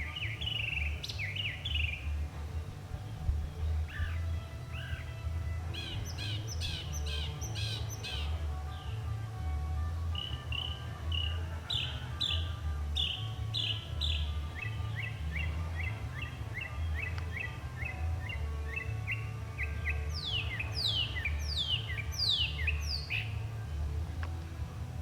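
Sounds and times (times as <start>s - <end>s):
mockingbird singing: 0.0s - 8.9s, 10.1s - 24.2s.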